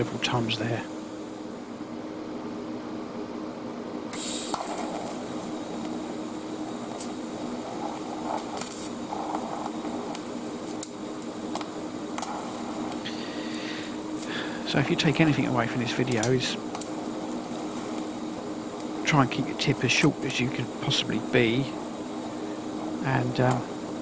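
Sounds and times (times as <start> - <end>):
low hum: 0.0 - 24.0
welding arc buzzing and crackling: 4.1 - 24.0.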